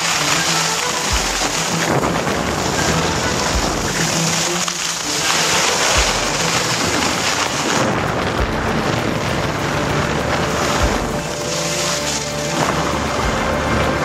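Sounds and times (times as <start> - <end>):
low bumps: 0.0 - 14.0
wind rushing over microphone: 0.0 - 14.0.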